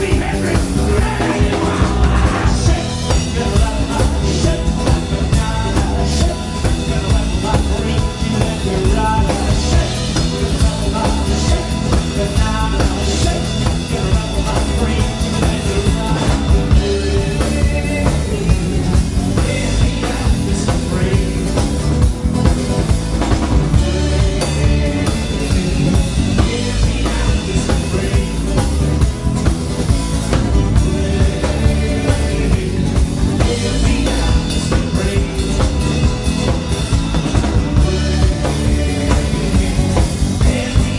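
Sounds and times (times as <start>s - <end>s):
acoustic guitar: 0.0s - 40.9s
drum kit beat: 0.0s - 40.9s
electric bass guitar: 0.0s - 40.9s.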